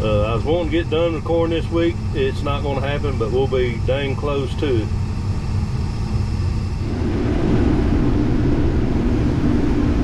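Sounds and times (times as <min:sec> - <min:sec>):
combine harvester drone: 0:00.0 - 0:10.0.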